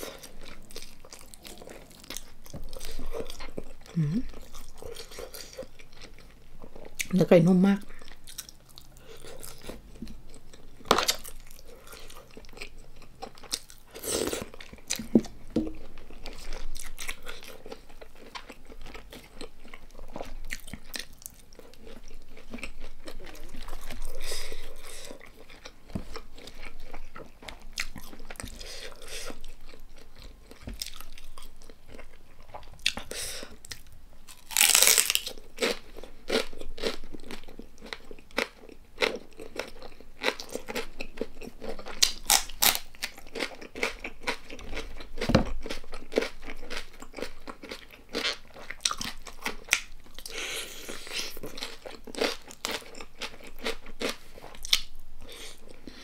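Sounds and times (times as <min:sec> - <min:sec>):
person chewing crunchy food: 0:00.0 - 0:07.2, 0:07.8 - 0:56.0.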